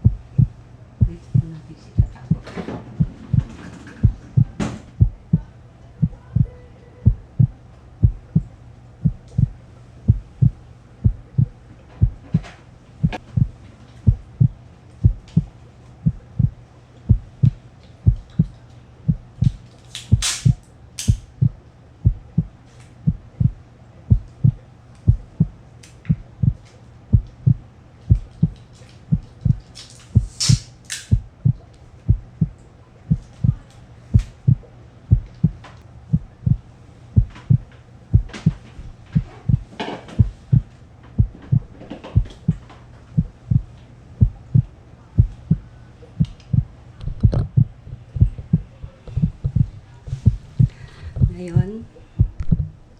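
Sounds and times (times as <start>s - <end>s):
heartbeat thumps: 0.0s - 52.8s.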